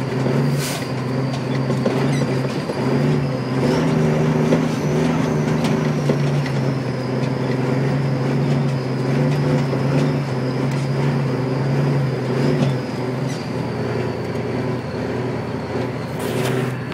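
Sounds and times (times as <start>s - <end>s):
truck engine running: 0.0s - 16.9s.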